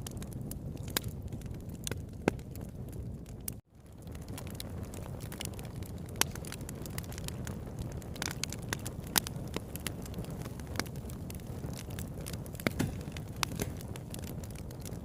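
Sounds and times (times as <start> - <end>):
campfire crackling: 0.0 - 15.0
low rush of flames: 0.0 - 15.0.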